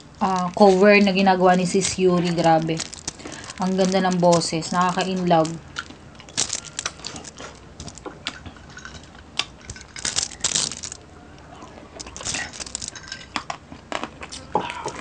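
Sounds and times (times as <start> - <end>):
people chewing crispy food: 0.0 - 15.0.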